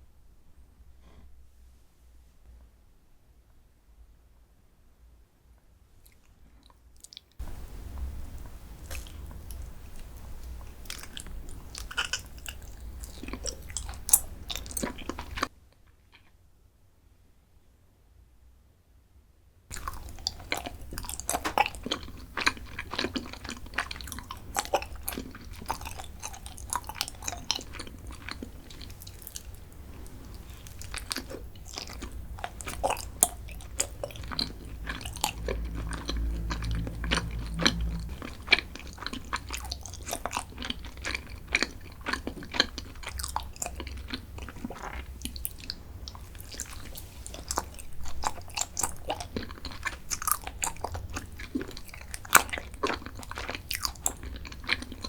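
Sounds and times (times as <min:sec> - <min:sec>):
chewing crunchy chocolate snacks: 0:06.0 - 0:16.4, 0:19.7 - 0:55.0.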